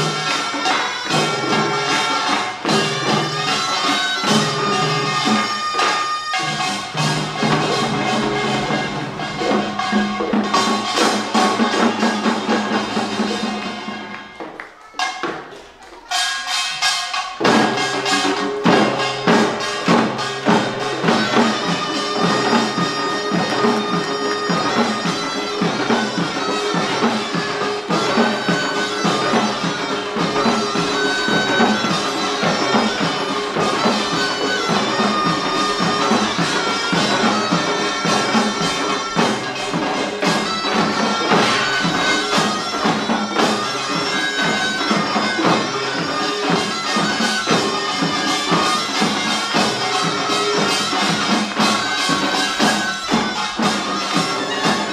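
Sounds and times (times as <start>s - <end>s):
drums and gongs rhythm: 0.0s - 54.9s
shawm melody: 0.0s - 54.9s.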